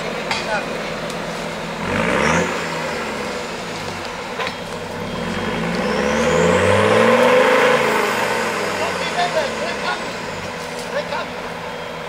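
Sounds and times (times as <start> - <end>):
buggy engine idling and revving: 0.0 - 12.0.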